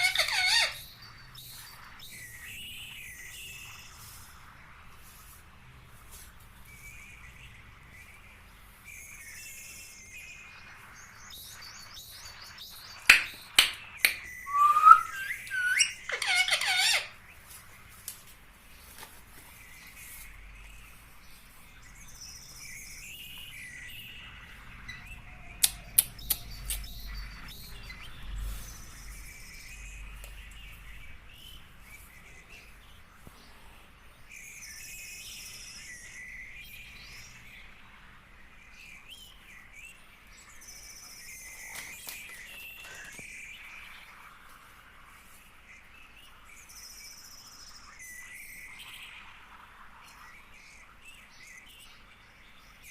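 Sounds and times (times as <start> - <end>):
soft bird chirping: 0.0 - 52.9.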